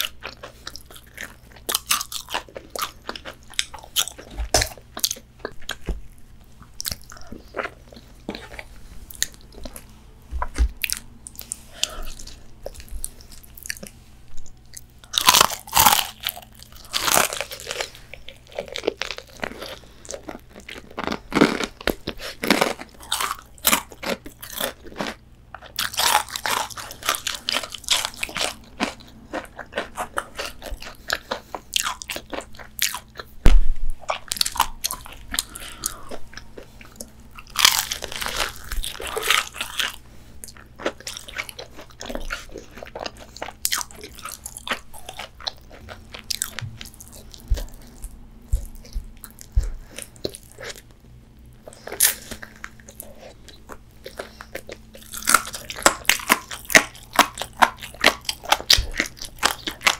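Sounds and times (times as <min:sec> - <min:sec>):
crunching fried chicken: 0:00.0 - 0:09.9, 0:14.7 - 0:59.9
wet chewing: 0:00.0 - 0:33.4, 0:34.0 - 0:59.9.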